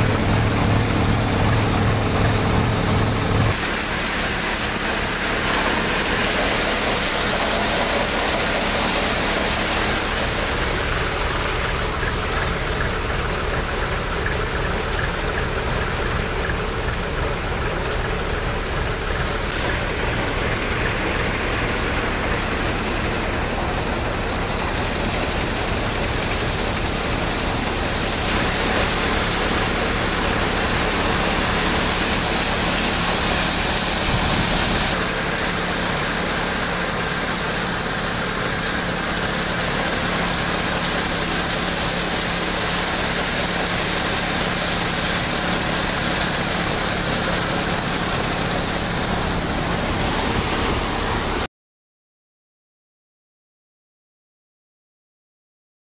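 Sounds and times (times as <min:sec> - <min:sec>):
thresher engine drone: 0:00.0 - 0:51.5.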